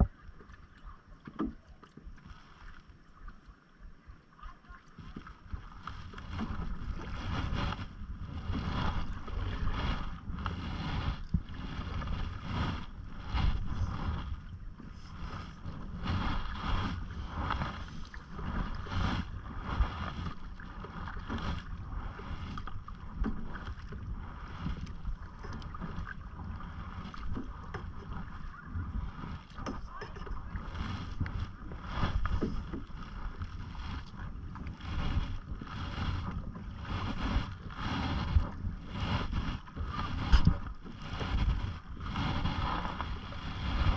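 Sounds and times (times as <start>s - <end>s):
paddle splashing in water: 0.0s - 43.9s
wind rumble on microphone: 0.0s - 43.9s.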